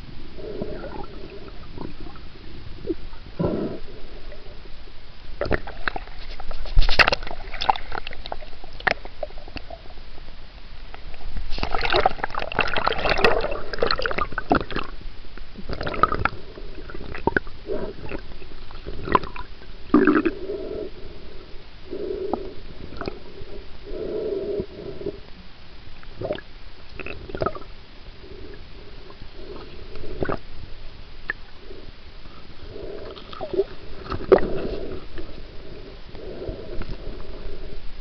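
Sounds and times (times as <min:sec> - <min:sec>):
water sloshing underwater: 0:00.0 - 0:25.4, 0:26.0 - 0:38.0.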